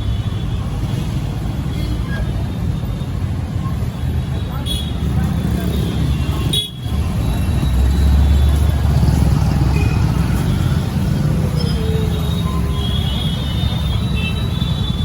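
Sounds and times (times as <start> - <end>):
vehicles rumbling close by: 0.0 - 15.0.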